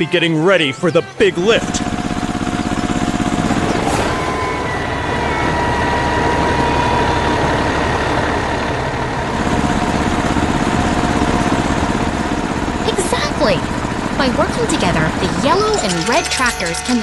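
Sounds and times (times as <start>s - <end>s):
heavy vehicle engine running: 0.6s - 17.0s
thin steady whine: 1.3s - 17.0s.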